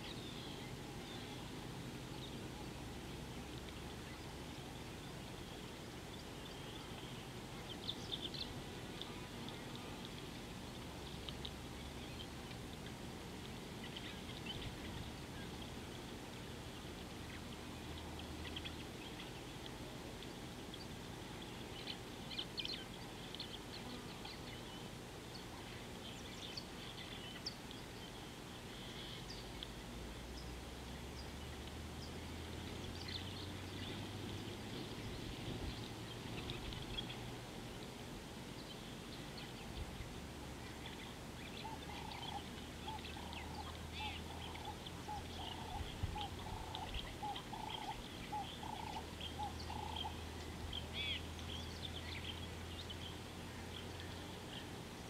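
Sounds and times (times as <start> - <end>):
birds chirping: 0.0 - 55.0
steady low hum: 0.0 - 55.0.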